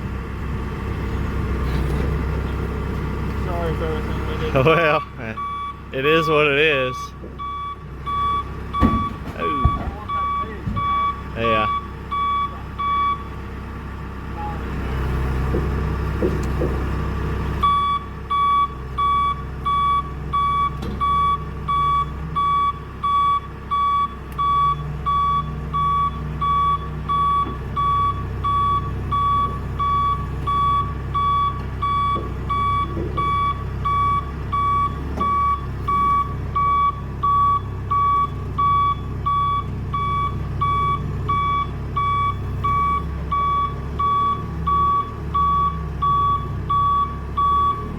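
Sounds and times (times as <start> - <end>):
diesel engine running: 0.0 - 47.9
reversing alarm beeping: 4.8 - 13.3, 17.6 - 47.9.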